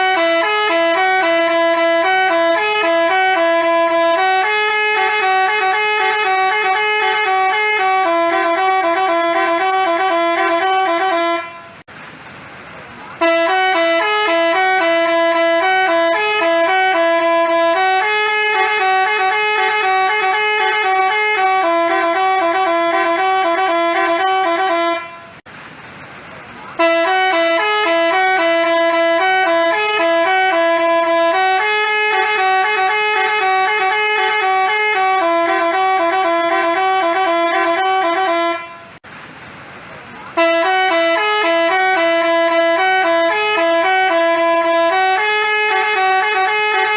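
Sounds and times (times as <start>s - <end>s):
multi-tone bus horn melody: 0.0s - 11.9s, 13.1s - 25.5s, 26.7s - 39.0s, 40.3s - 46.9s.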